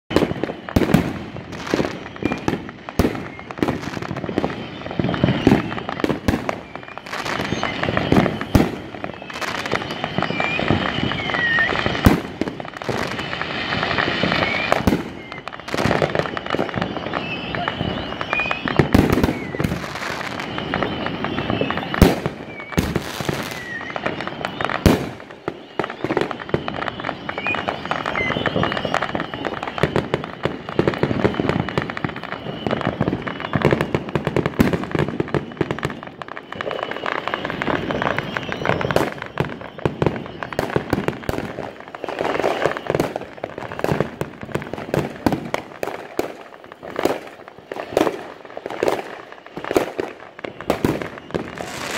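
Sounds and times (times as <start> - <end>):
fireworks crackling and popping: 0.1 - 51.9
loud firework bangs: 0.1 - 51.9.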